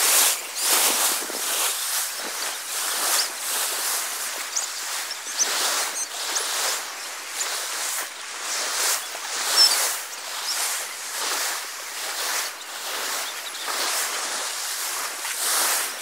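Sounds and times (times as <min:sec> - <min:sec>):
sea water sloshing and lapping: 0:00.0 - 0:16.0.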